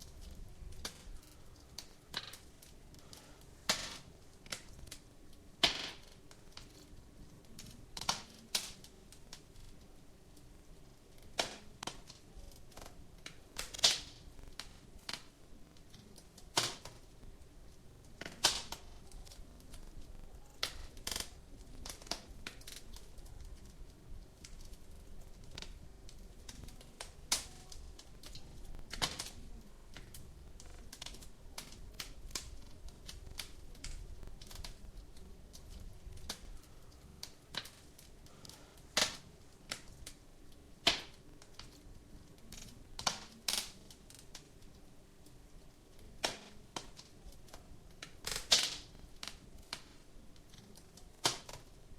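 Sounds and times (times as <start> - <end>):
low rumble of flames: 0.0 - 51.9
wood fire crackling: 0.0 - 51.9.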